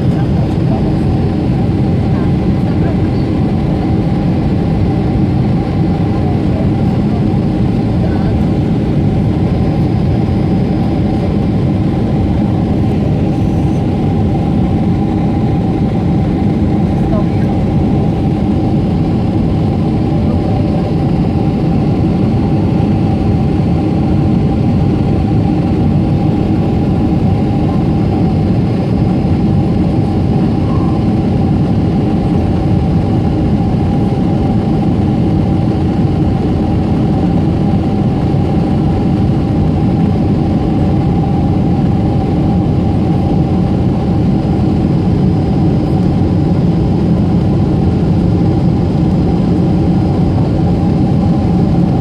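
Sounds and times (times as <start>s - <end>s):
jet engine roar in cabin: 0.0s - 52.0s.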